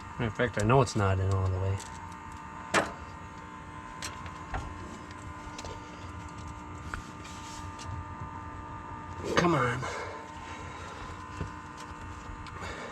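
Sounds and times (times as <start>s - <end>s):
faint hum: 0.0s - 12.9s.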